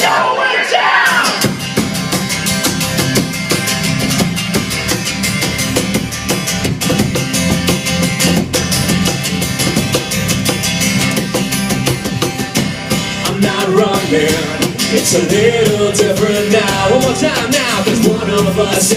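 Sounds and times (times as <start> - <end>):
strummed acoustic guitars: 0.0 - 18.9
bass guitar: 1.1 - 18.9
steady drum beat: 1.1 - 18.9.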